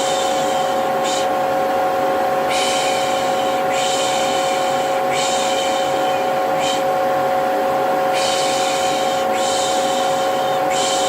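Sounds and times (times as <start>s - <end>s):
vacuum cleaner motor humming: 0.0s - 11.0s.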